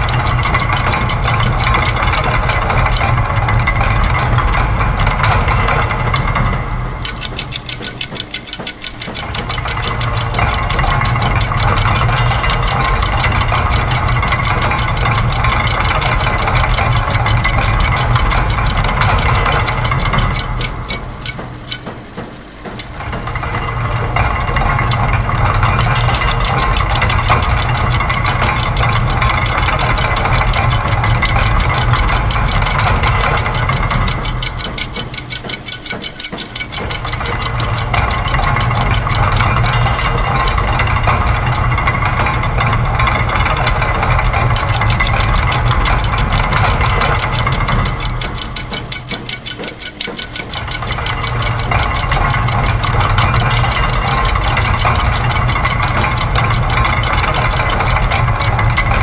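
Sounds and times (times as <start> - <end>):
fast mechanical clicking: 0.0 - 59.0
low machine hum: 0.0 - 59.0.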